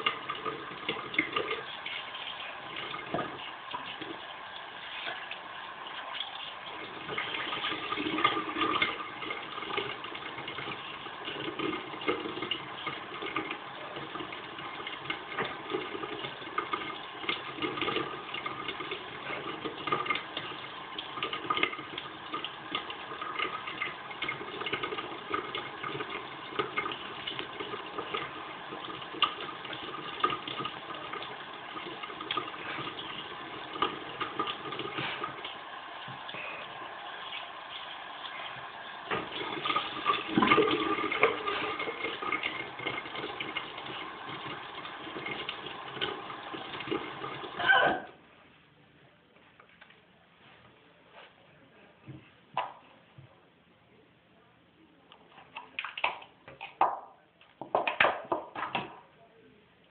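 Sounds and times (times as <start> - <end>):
tap water running into sink: 0.0 - 48.2, 55.5 - 59.0.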